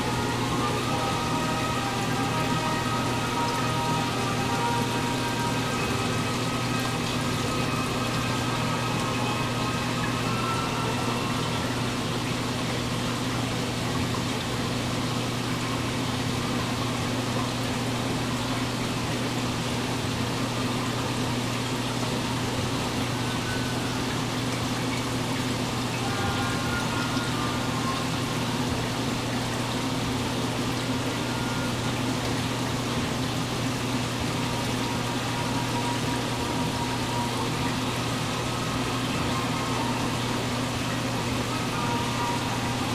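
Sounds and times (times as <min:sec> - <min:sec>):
aquarium filter pump humming: 0:00.0 - 0:42.9
water rushing and bubbling: 0:00.0 - 0:42.9.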